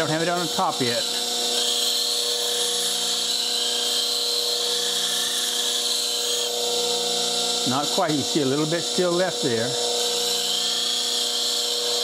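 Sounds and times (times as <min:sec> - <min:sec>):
bench grinder humming: 0:00.0 - 0:12.0
steel being ground: 0:00.0 - 0:12.0.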